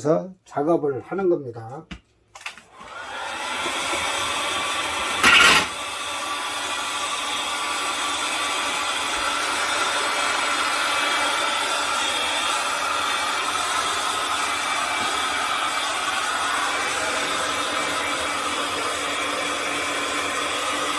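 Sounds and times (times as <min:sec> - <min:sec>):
hair dryer blowing: 0:02.7 - 0:20.9.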